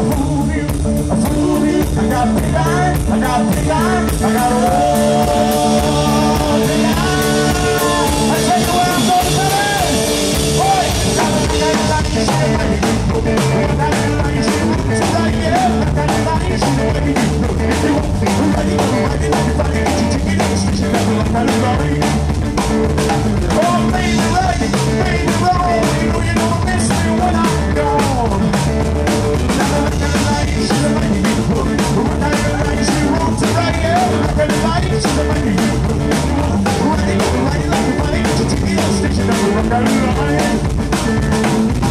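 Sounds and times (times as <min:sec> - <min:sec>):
busy drumming: 0:00.0 - 0:41.9
electric guitar lead: 0:00.0 - 0:41.9
upright bass: 0:00.0 - 0:41.9.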